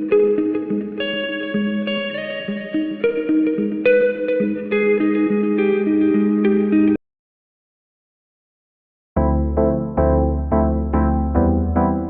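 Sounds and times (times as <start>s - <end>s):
keyboard chords: 0.0s - 7.0s, 9.2s - 12.0s.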